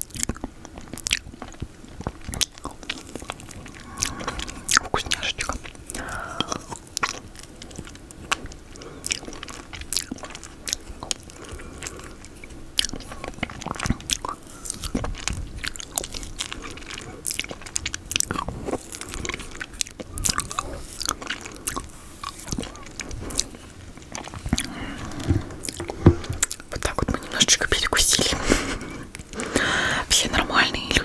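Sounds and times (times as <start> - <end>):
sticky smacking and chewing: 0.0 - 31.0.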